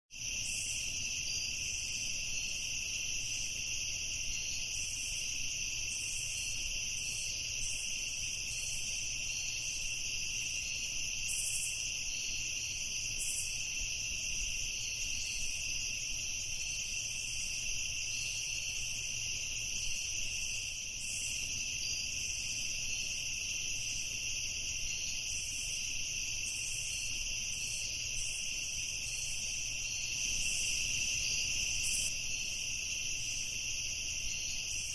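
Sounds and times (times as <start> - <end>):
crickets chirring: 0.2 - 34.9
faint pulsing insect calls: 0.2 - 34.9.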